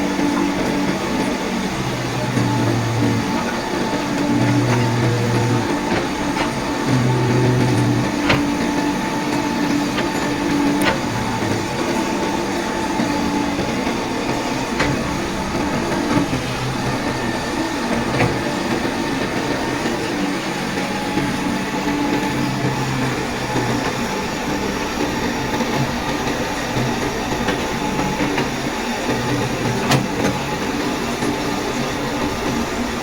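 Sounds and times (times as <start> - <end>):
diesel engine running: 0.0 - 30.5.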